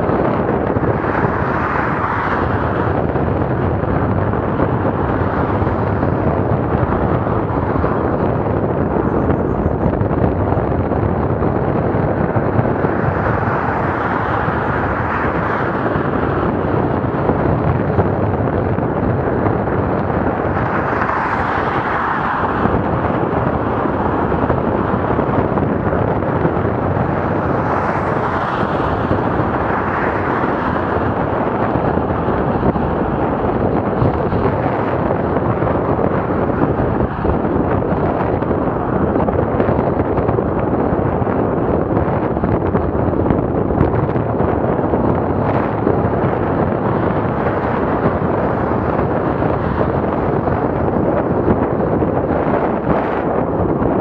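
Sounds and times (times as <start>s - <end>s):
road noise while cycling: 0.0s - 54.0s
wind rushing on microphone: 0.0s - 54.0s.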